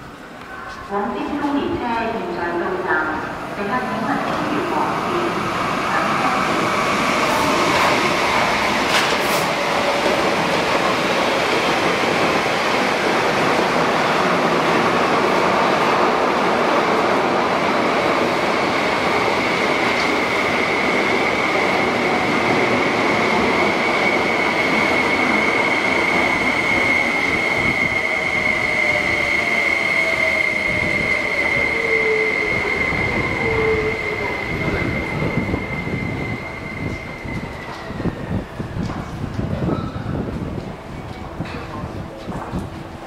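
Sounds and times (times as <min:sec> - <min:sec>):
train wheels rumbling on rails: 0:03.8 - 0:43.0.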